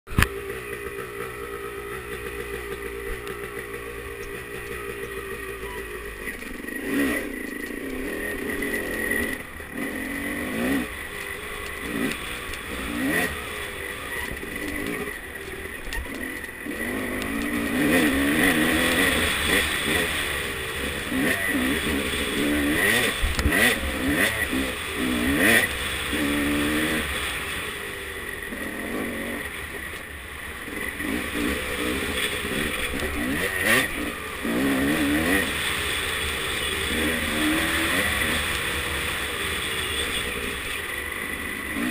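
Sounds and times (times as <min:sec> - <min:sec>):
dirt bike engine revving: 0:00.1 - 0:41.9.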